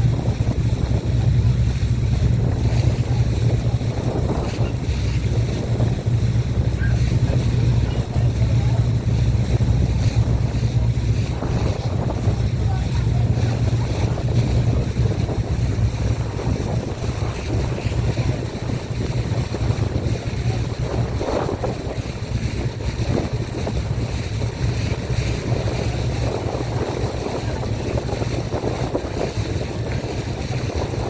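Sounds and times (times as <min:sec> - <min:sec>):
boat engine droning: 0:00.0 - 0:31.0
water rushing past hull: 0:00.0 - 0:31.0
wind buffeting microphone: 0:00.0 - 0:31.0.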